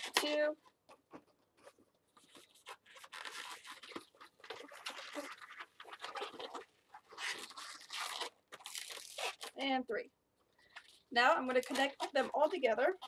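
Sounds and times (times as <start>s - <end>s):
balloons being twisted and rubbed: 0.0s - 9.7s, 10.7s - 13.0s.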